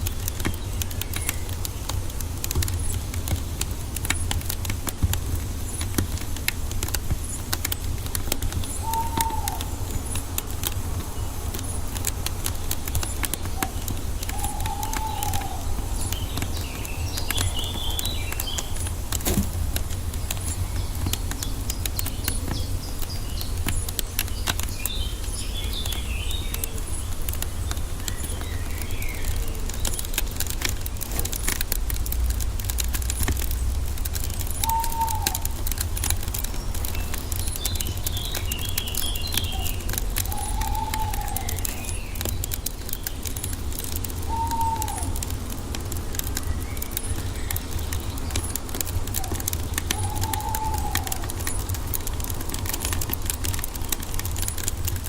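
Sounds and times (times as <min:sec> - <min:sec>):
forest birds chirping: 0:00.0 - 0:55.0
wood fire crackling: 0:00.0 - 0:55.0.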